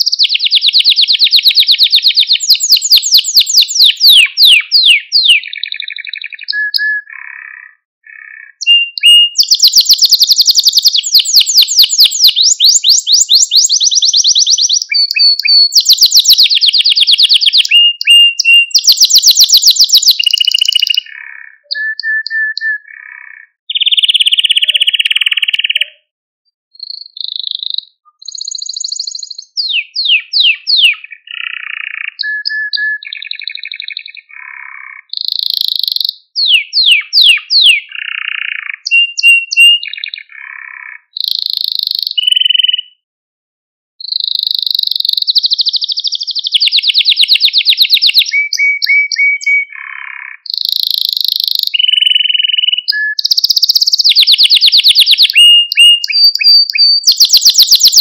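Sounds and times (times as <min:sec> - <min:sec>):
canary singing trills: 0:00.0 - 0:26.1, 0:26.7 - 0:43.0, 0:44.0 - 0:58.0.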